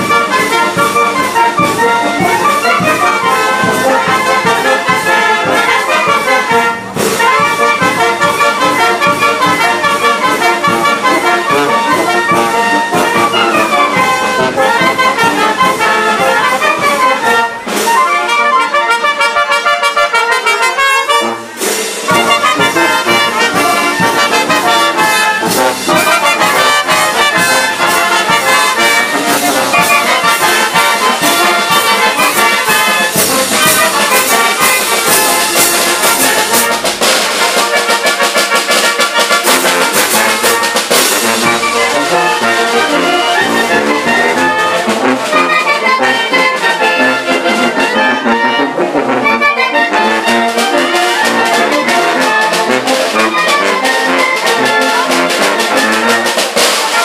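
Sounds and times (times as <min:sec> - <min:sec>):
brass band playing dance tune: 0:00.0 - 0:57.0.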